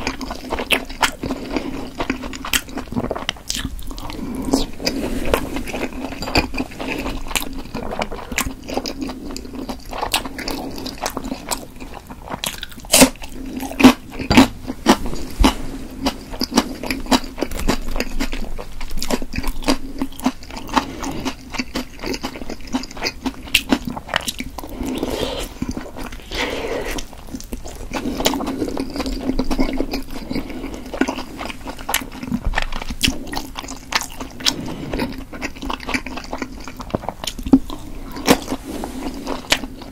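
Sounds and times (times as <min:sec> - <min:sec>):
chewing and mouth smacks: 0:00.0 - 0:38.6.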